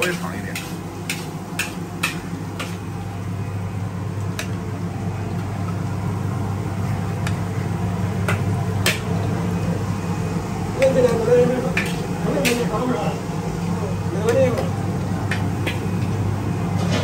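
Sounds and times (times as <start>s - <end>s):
wok stove humming: 0.0s - 17.0s.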